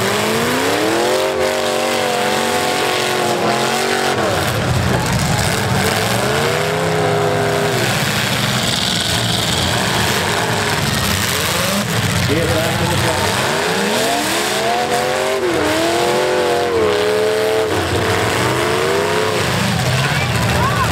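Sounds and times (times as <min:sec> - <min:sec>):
other engines running: 0:00.0 - 0:20.9
truck engine revving hard: 0:00.0 - 0:20.9.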